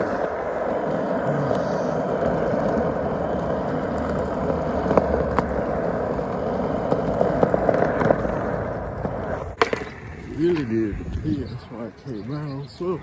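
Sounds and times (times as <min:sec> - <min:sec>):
sharp skateboard clicks: 0:00.0 - 0:11.2
skateboard wheels rolling on pavement: 0:00.0 - 0:13.0.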